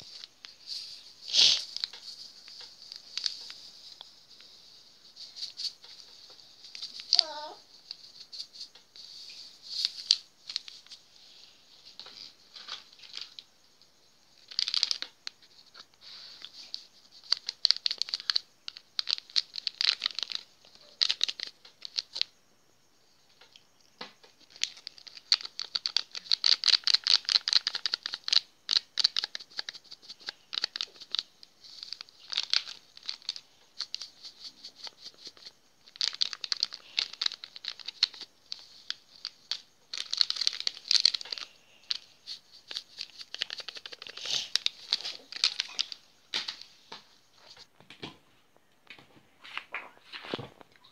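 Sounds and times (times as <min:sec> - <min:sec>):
granules crackling between fingertips: 0:00.0 - 0:11.1, 0:14.3 - 0:22.3, 0:23.4 - 0:47.6.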